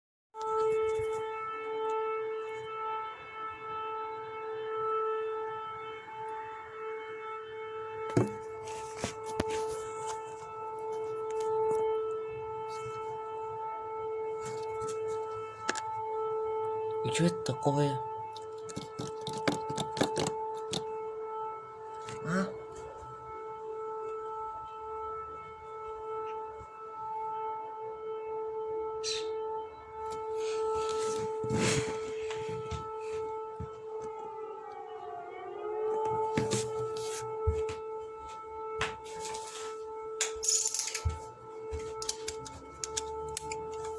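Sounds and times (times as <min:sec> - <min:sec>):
air-raid siren steady tone: 0:00.3 - 0:43.9.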